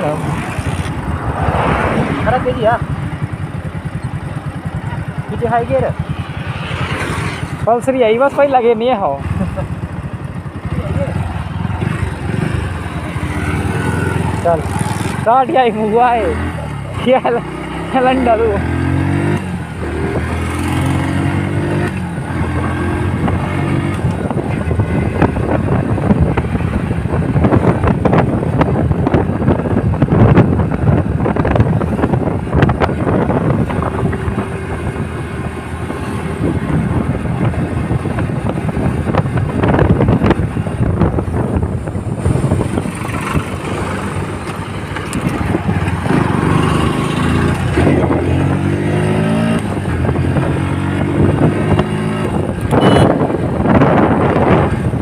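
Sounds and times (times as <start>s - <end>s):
wind rumbling on microphone: 0.0s - 17.0s, 17.7s - 55.0s
motorcycle engine running: 0.0s - 55.0s.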